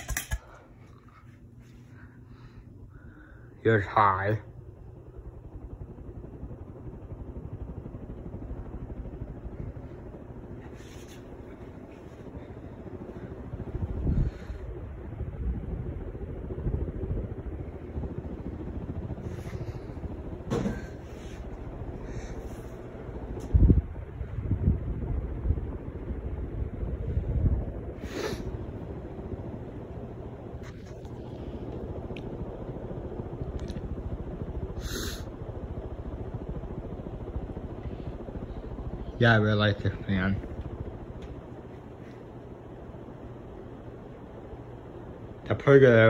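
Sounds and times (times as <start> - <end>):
ceiling fan blades whooshing: 0.0 - 46.0.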